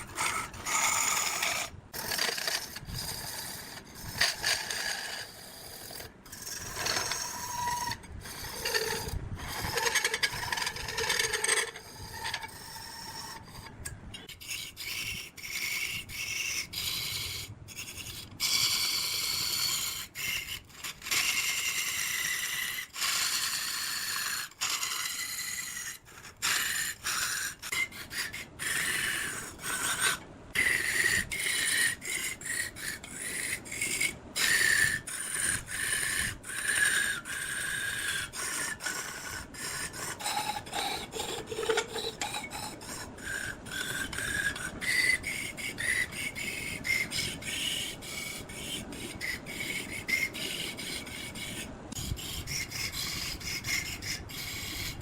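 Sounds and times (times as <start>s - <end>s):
woodworking tool rasping wood: 0.0s - 55.0s.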